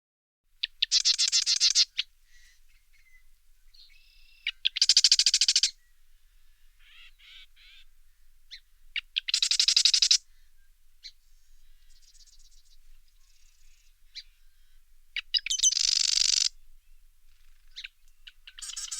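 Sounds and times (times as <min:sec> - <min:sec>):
wren trilling: 0:00.6 - 0:05.9, 0:06.6 - 0:07.9, 0:08.5 - 0:10.3, 0:11.0 - 0:16.6, 0:17.3 - 0:18.9
bird chirps: 0:00.6 - 0:07.9, 0:08.5 - 0:18.9.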